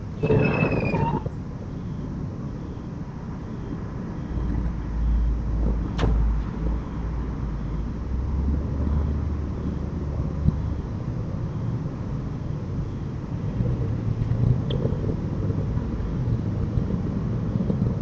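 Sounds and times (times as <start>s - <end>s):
motor vehicle rumble: 0.0s - 18.0s.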